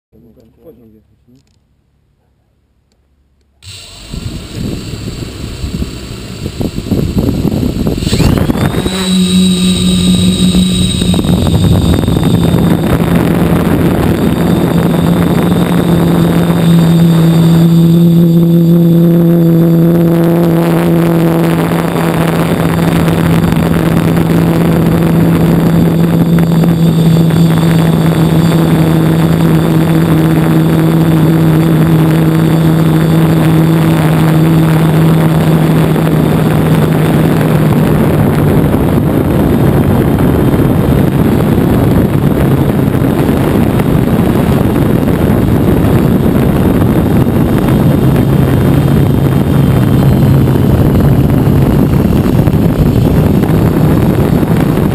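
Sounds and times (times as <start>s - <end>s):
drone propellers humming: 2.7s - 54.9s
rush of air: 3.6s - 54.9s.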